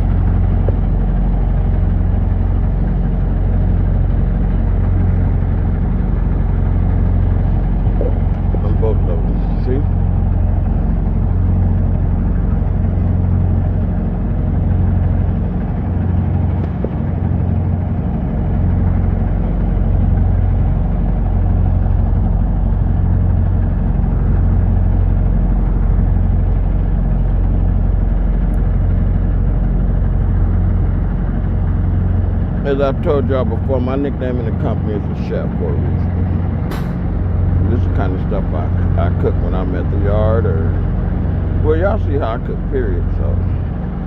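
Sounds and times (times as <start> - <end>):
large diesel engine idling: 0.0 - 44.0.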